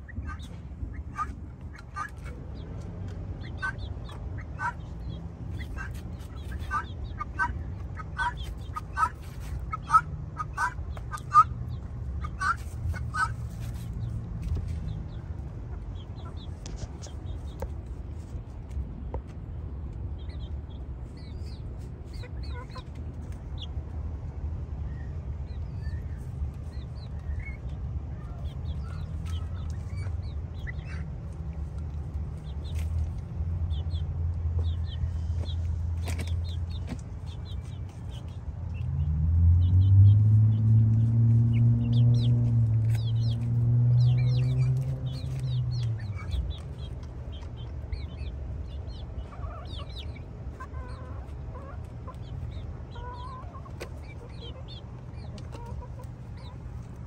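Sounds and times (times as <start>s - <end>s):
chickens clucking: 0.0s - 24.5s, 25.1s - 57.0s.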